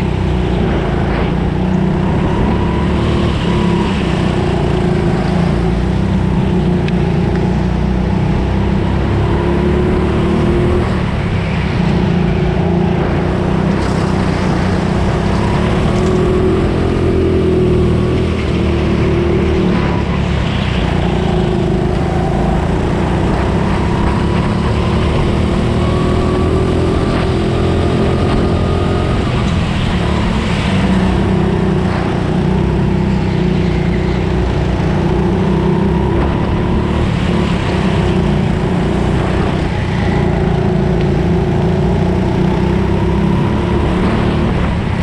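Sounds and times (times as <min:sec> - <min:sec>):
go-kart engine revving: 0:00.0 - 0:45.0.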